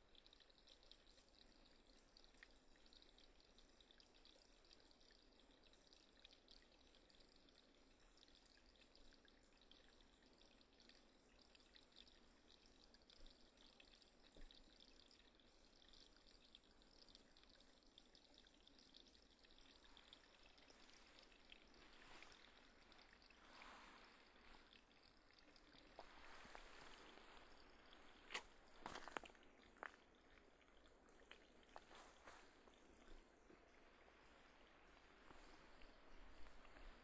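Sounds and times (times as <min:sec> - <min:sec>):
faint trickle of running water: 0:00.0 - 0:37.0.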